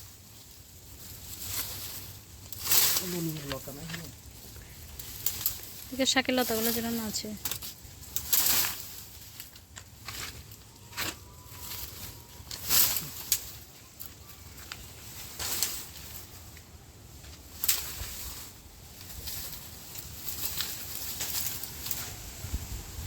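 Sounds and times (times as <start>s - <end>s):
rustling of vines: 0.0s - 23.0s.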